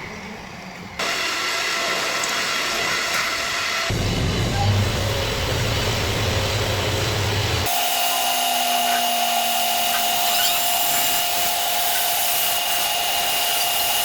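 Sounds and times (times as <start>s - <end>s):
lathe cutting hiss: 1.0s - 14.0s.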